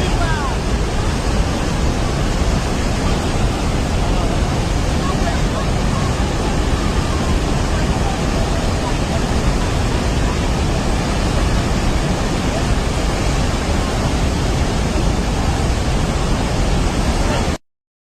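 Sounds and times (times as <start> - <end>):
floodwater rushing: 0.0 - 17.6.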